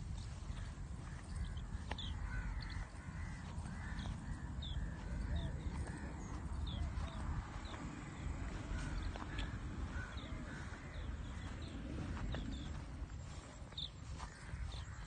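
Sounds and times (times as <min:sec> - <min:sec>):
birds chirping: 0:00.0 - 0:15.0
wind rumble on microphone: 0:00.0 - 0:15.0.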